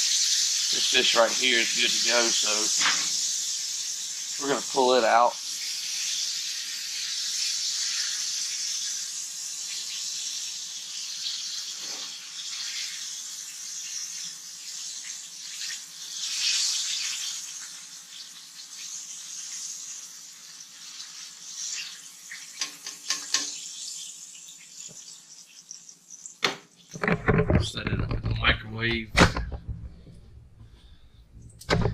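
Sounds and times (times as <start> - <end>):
fish frying in hot oil: 0.0 - 27.0.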